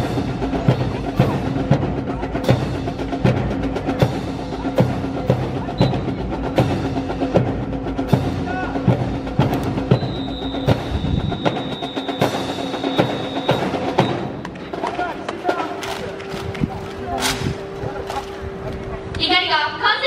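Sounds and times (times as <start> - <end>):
rifles clacking rhythmically: 0.0 - 18.8.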